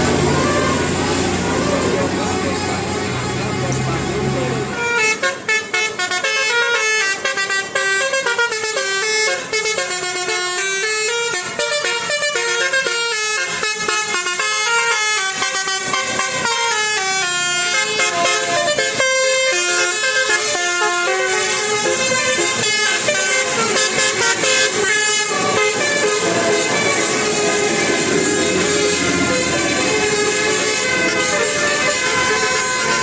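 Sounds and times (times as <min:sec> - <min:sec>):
multi-tone air horn melody: 0:03.8 - 0:33.0.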